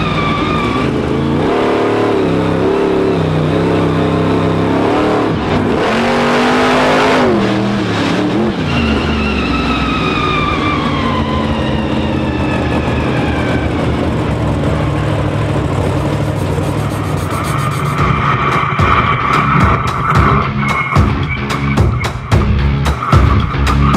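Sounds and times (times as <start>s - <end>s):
truck engine revving: 0.0s - 23.9s.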